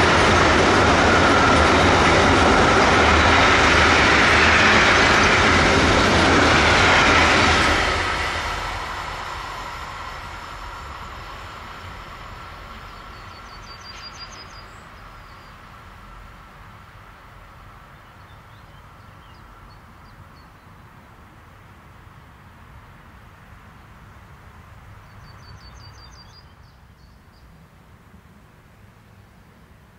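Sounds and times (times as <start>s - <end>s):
freight train wheels on rails: 0.0s - 29.8s.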